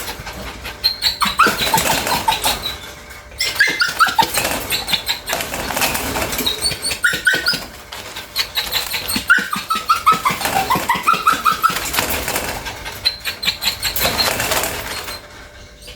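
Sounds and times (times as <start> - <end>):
dog whimpering: 0.0 - 15.9.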